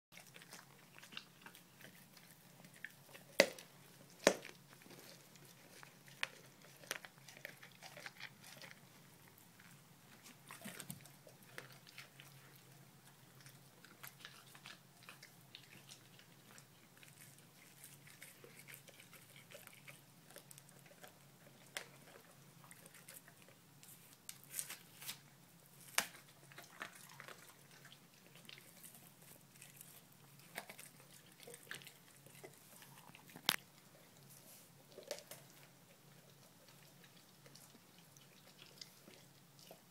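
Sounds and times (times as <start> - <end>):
dog crunching fish: 0.1 - 39.9.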